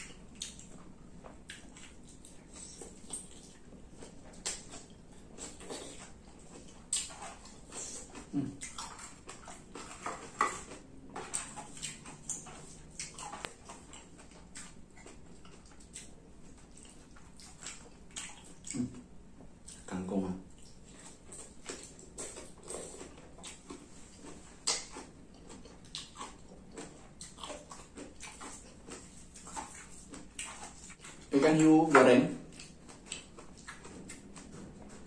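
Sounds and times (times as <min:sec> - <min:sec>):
wet chewing and slurping: 0:00.0 - 0:19.9, 0:20.5 - 0:35.0.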